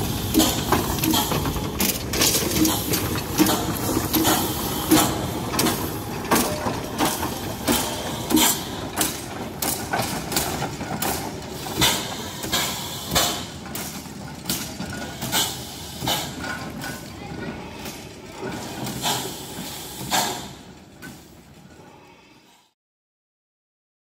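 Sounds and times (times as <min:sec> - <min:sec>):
steam locomotive exhaust beats: 0:00.0 - 0:22.3.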